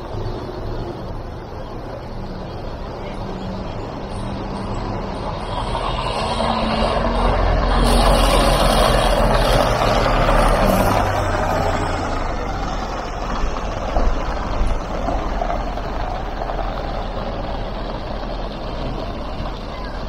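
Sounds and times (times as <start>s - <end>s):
bus engine passing: 0.0s - 20.0s.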